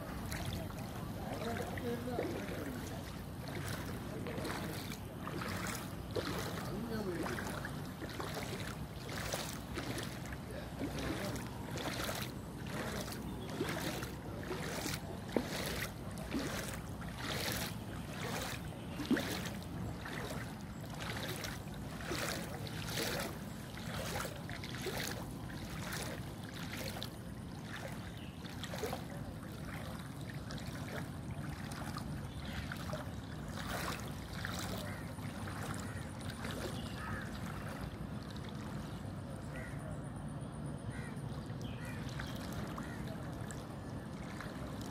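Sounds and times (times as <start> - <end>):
splashing through floodwater: 0.0 - 44.9.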